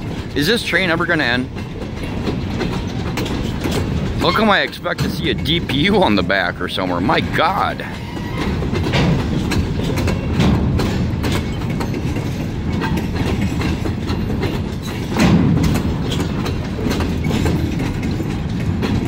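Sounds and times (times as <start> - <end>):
clicks and clanks: 0.0 - 19.0
freight train wheels rumbling: 0.0 - 19.0.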